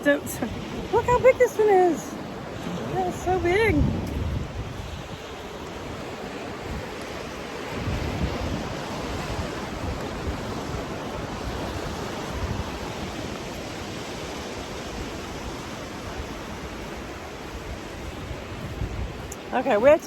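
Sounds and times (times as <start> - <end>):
ocean surf washing onto beach: 0.0 - 20.0
wind gusting on microphone: 0.0 - 20.0.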